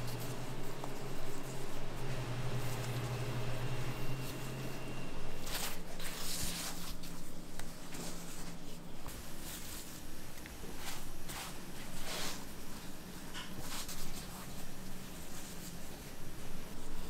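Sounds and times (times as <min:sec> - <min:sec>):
hands rustling dough on table: 0:00.0 - 0:17.0.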